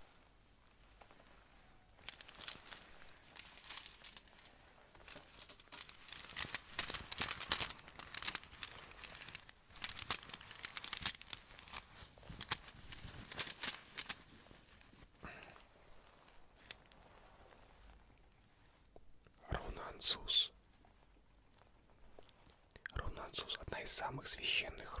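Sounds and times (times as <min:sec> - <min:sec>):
crinkling and rustling: 0:00.0 - 0:25.0.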